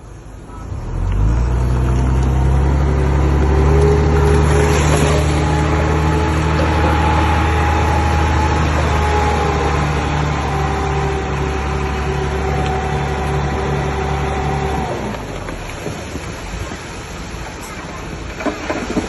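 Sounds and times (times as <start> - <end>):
heavy diesel engine droning: 0.0 - 19.0
rough noisy rumble: 0.0 - 19.0.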